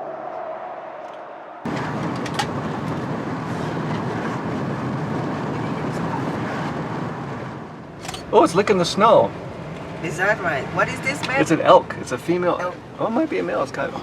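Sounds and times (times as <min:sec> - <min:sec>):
car interior road noise: 0:01.7 - 0:14.0.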